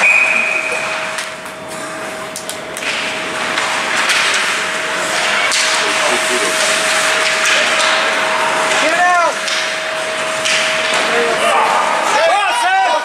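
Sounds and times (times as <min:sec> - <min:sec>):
steady indoor hall noise: 0:00.0 - 0:13.0.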